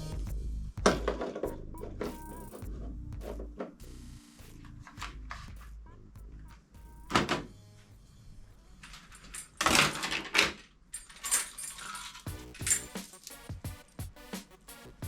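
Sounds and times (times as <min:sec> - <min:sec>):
background music: 0:00.0 - 0:09.7, 0:12.2 - 0:15.0.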